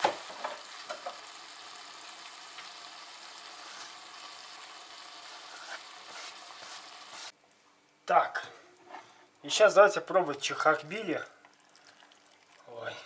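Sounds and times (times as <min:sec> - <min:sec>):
stew sizzling: 0:00.0 - 0:07.4, 0:08.8 - 0:12.9.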